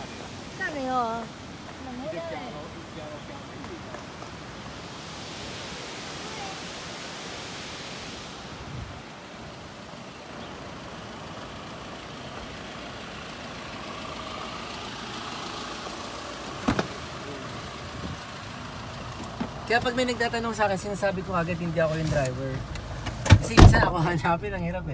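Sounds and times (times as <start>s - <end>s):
outdoor rushing noise: 0.0s - 24.9s
vehicle hum: 0.0s - 24.9s.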